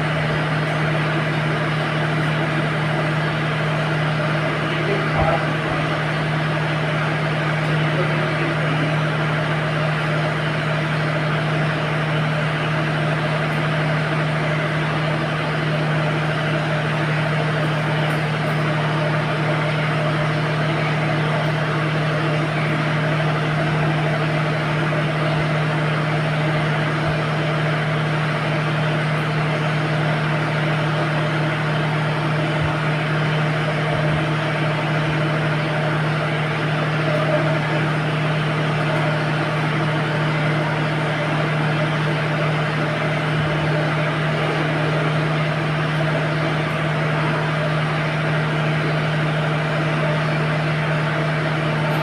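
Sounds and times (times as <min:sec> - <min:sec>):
engine running steadily: 0:00.0 - 0:52.0.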